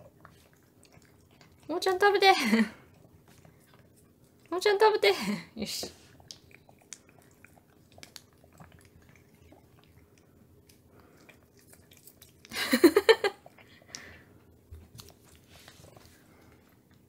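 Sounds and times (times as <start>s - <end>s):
cat chewing: 0.0s - 2.1s, 2.7s - 4.6s, 5.9s - 17.0s.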